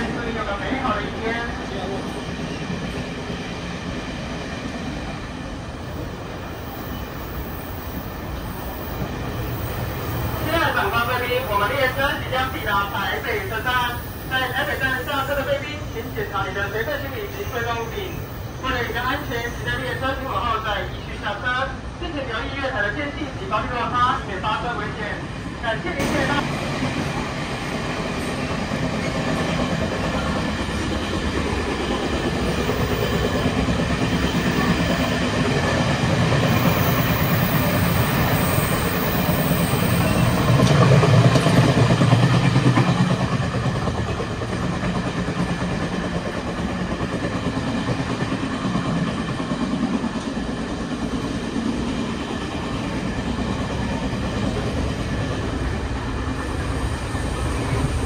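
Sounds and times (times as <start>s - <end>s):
train wheels on track: 0.0s - 58.0s.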